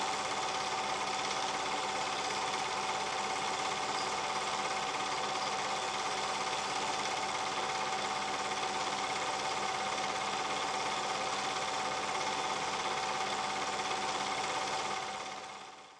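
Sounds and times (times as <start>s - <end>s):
film projector mechanical clatter: 0.0s - 15.9s.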